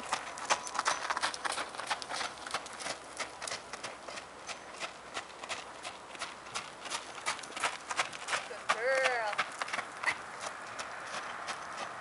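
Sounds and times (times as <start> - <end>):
horse hoofbeats on dirt: 0.0 - 12.0.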